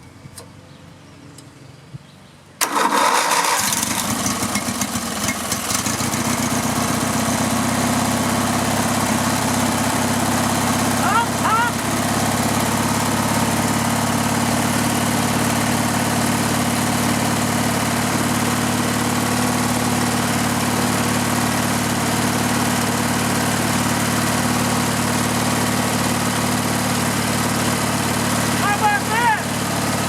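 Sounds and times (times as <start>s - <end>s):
lawn mower engine running: 2.6s - 30.0s.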